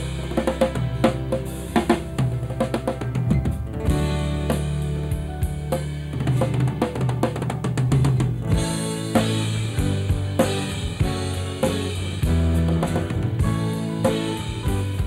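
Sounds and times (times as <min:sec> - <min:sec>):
drum kit beat: 0:00.0 - 0:15.0
keyboard chords: 0:00.0 - 0:15.0
low bass notes: 0:00.0 - 0:15.0.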